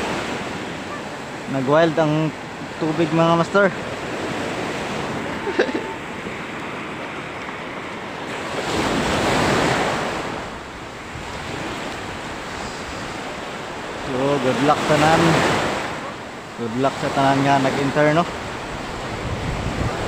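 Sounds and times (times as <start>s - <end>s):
sea surf washing onto beach: 0.0s - 20.0s.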